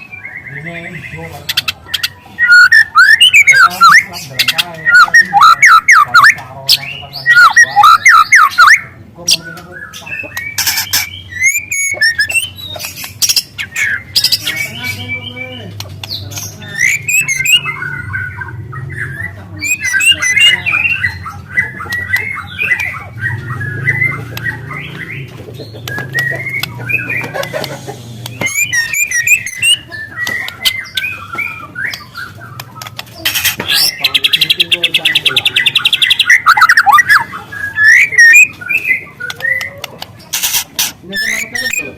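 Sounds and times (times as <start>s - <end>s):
bird singing twittering song: 0.0s - 41.9s.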